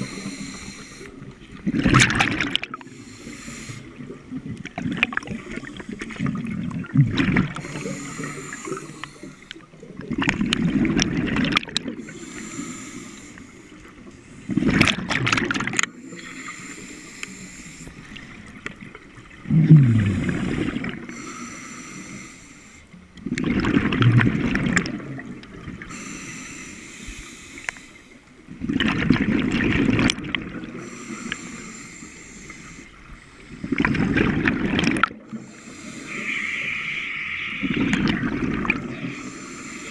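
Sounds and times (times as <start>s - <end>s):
scuba regulator breathing bubbles: 0.0s - 4.2s, 4.9s - 18.7s, 19.5s - 25.1s, 25.7s - 28.2s, 29.5s - 39.9s.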